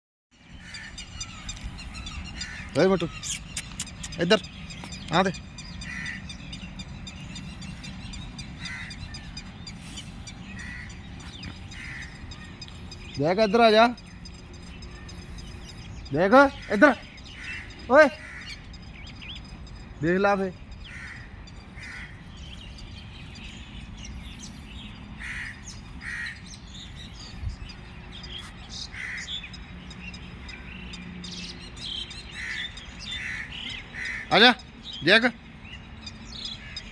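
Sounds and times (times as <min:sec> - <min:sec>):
bird calling: 0:00.4 - 0:36.9.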